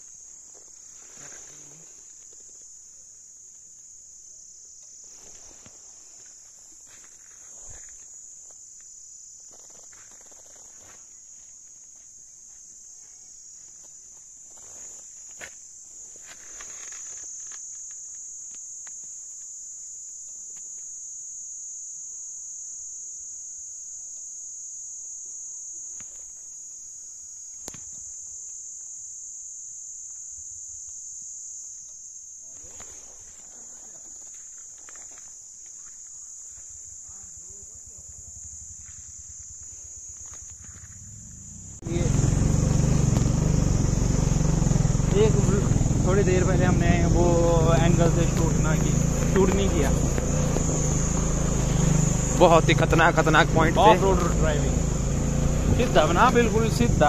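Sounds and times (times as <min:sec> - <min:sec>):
insects shrilling: 0:00.0 - 0:57.0.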